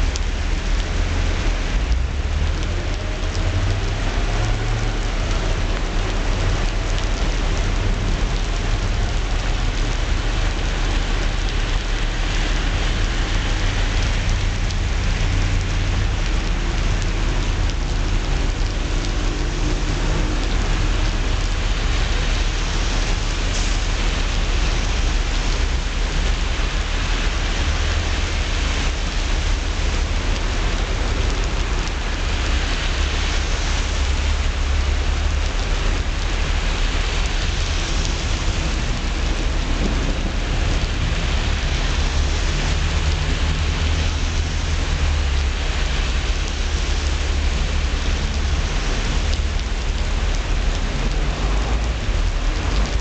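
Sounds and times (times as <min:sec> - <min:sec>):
constant low rumble: 0:00.0 - 0:53.0
heavy rain falling: 0:00.0 - 0:53.0.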